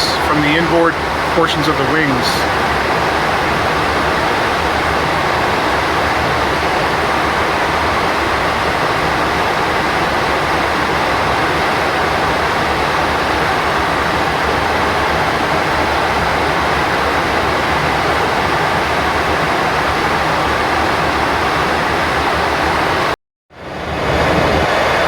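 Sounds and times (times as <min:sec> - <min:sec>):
airflow rushing in cockpit: 0:00.0 - 0:25.0.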